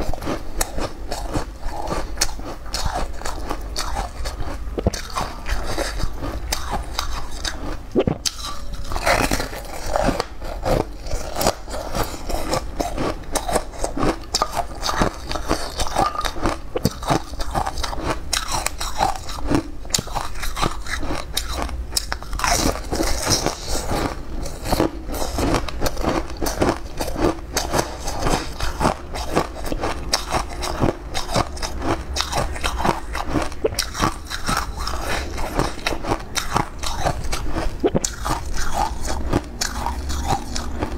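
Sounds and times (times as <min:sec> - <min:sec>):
crunching bites and chewing: 0:00.0 - 0:40.9.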